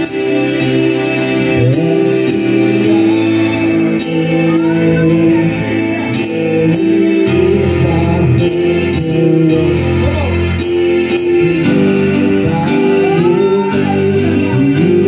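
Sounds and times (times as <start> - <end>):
electronic keyboard gospel chords: 0.0 - 15.0
man singing: 0.0 - 15.0.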